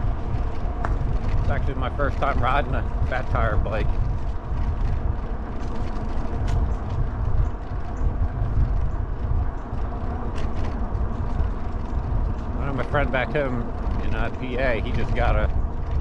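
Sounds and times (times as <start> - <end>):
road noise: 0.0 - 16.0
wind rumbling on microphone: 0.0 - 16.0.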